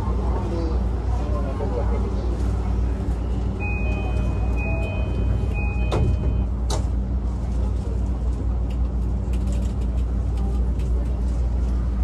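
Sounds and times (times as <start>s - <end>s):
train equipment hum: 0.0s - 12.0s.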